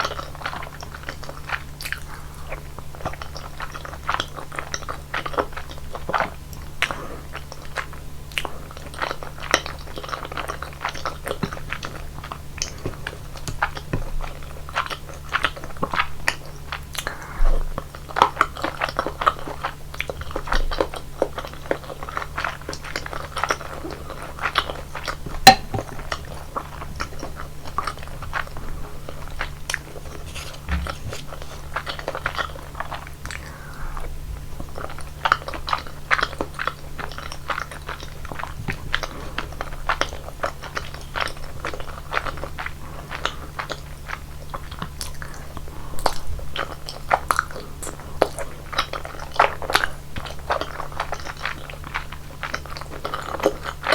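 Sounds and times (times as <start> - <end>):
wet chewing sounds: 0.0 - 53.9.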